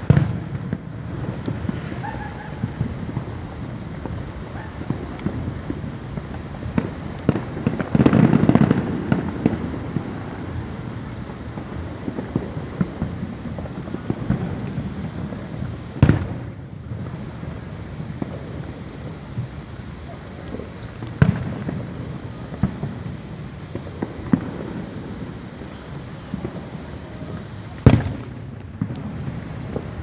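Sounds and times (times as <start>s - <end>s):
loud firework bang: 0.0s - 18.8s, 20.5s - 30.0s
fireworks popping and crackling: 0.0s - 30.0s.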